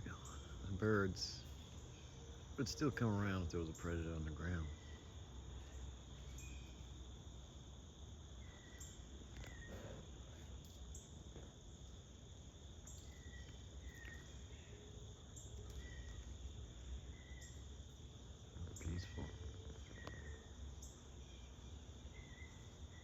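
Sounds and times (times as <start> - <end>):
insect trilling: 0.0 - 23.0.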